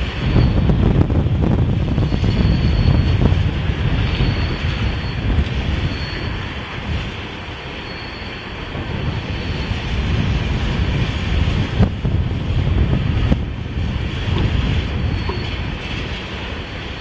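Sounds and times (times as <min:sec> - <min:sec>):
freight train rolling by: 0:00.0 - 0:17.0
wind buffeting microphone: 0:00.0 - 0:17.0.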